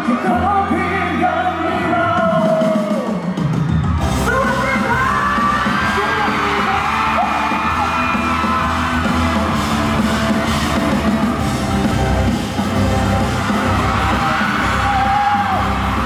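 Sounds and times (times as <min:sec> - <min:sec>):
crowd screaming and cheering: 0:00.0 - 0:16.0
live pop concert music: 0:00.0 - 0:16.0.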